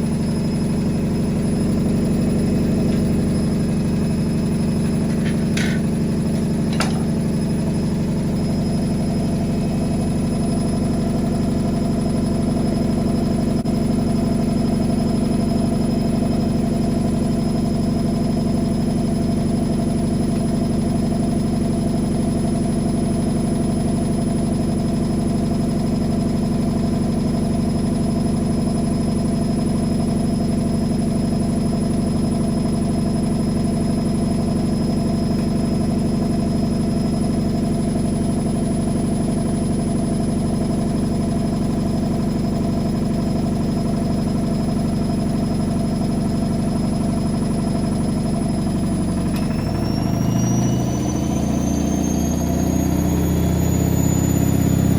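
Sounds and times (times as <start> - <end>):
washing machine running: 0.0 - 23.1, 25.0 - 54.9.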